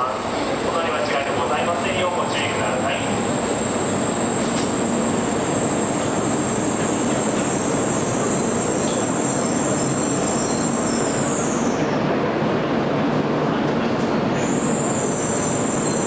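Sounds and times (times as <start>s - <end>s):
train braking to a stop: 0.0s - 12.1s, 13.9s - 16.0s.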